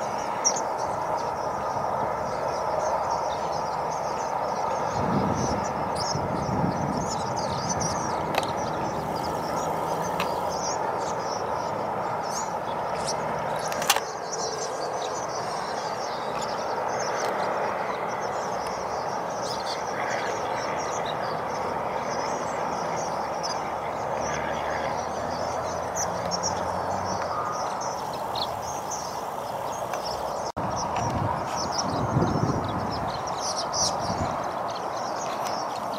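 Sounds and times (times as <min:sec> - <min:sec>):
flock of swallows twittering: 0:00.0 - 0:35.9.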